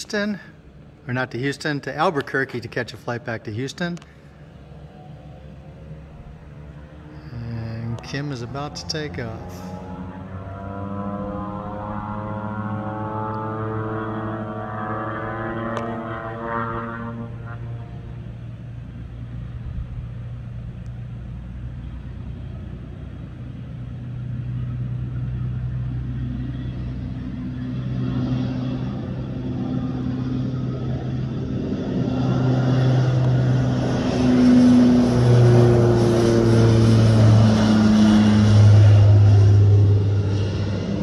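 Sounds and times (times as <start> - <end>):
turboprop engines droning: 0.0 - 41.0.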